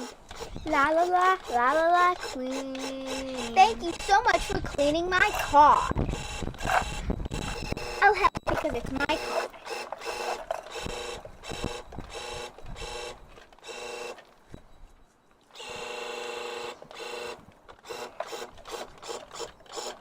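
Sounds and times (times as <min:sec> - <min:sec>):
toy electric motor whirring: 0:00.0 - 0:14.6, 0:15.5 - 0:20.0.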